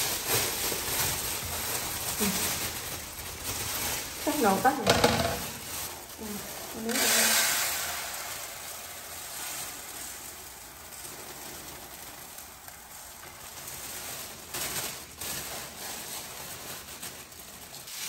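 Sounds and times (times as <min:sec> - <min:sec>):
rice grains pouring into basin: 0:00.0 - 0:16.9
plastic bag rustling: 0:00.0 - 0:18.0.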